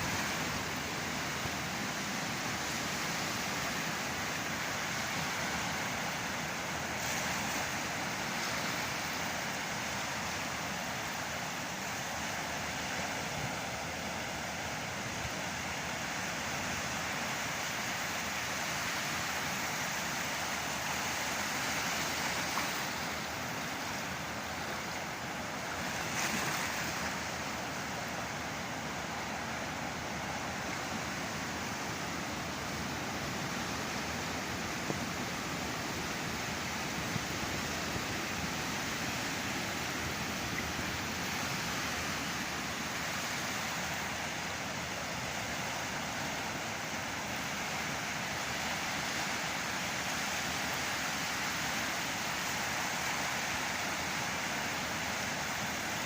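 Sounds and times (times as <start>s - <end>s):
surf breaking on shore: 0.0s - 56.0s.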